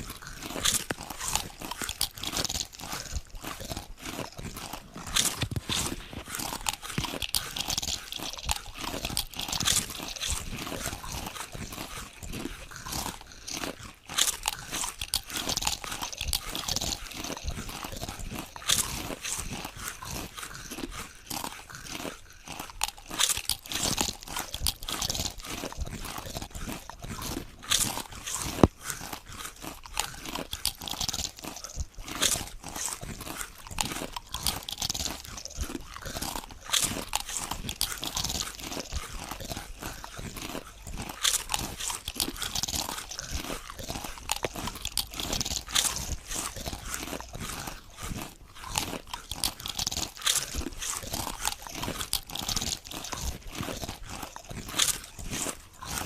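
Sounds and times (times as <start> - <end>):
potato chips crunching: 0.0 - 56.0.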